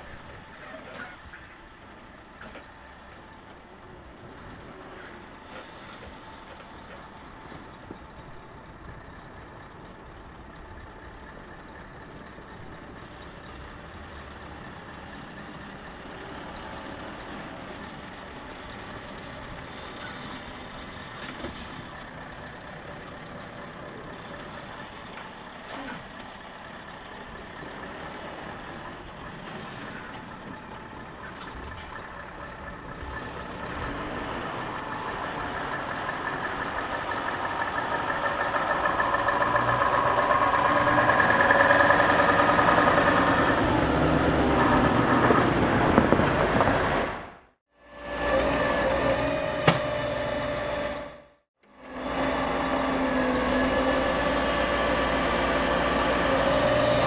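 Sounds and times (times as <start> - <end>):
diesel truck engine: 0.0 - 57.0.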